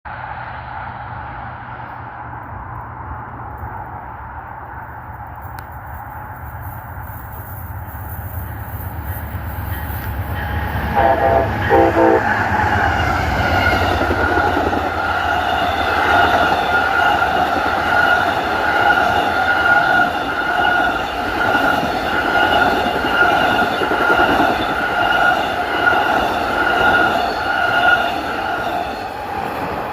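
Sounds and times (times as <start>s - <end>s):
train wheels rushing on rail: 0.1s - 29.9s.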